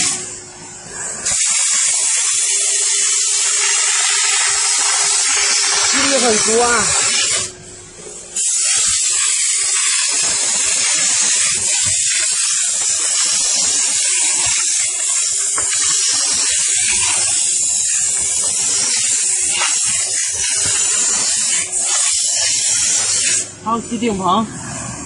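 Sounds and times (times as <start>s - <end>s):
steam nozzle hissing: 0.0s - 25.0s.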